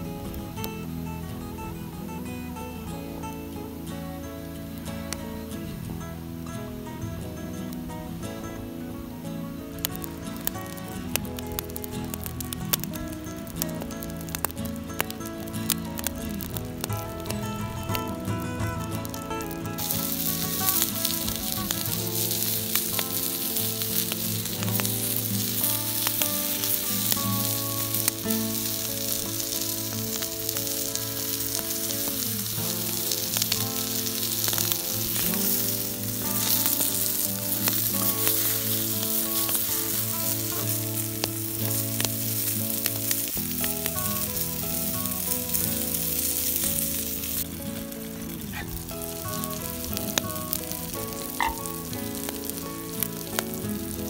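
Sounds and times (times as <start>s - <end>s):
background music of sustained chords: 0.0s - 54.0s
food sizzling in a pan: 2.5s - 54.0s.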